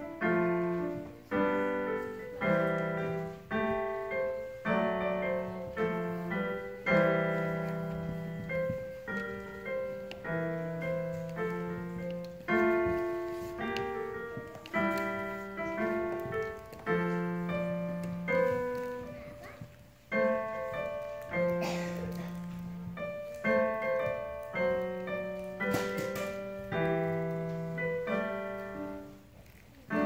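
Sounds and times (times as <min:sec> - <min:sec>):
piano chords: 0:00.0 - 0:30.0.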